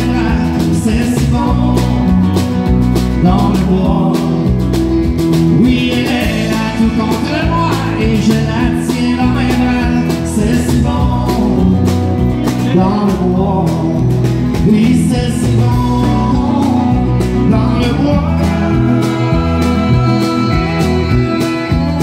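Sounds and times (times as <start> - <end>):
live country band playing: 0.0 - 22.0.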